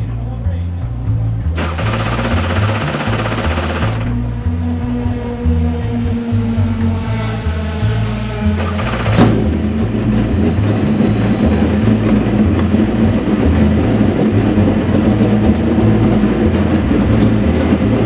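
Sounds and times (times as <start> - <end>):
intro music: 0.0 - 18.0
racing car engine idling: 0.8 - 18.0.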